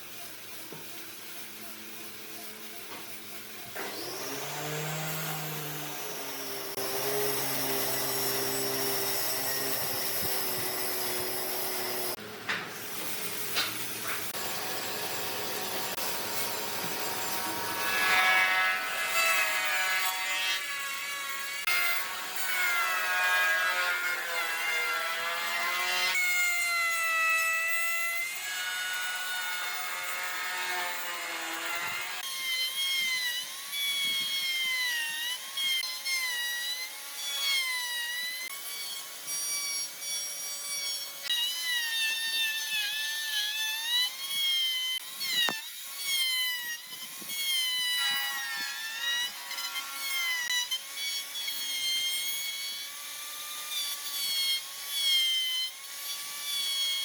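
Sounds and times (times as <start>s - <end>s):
power tool cutting wood: 0.0s - 57.0s.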